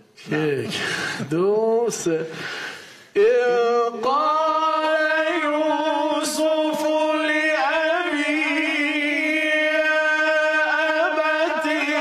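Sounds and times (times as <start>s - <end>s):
man chanting recitation: 0.2s - 2.4s, 3.2s - 12.0s.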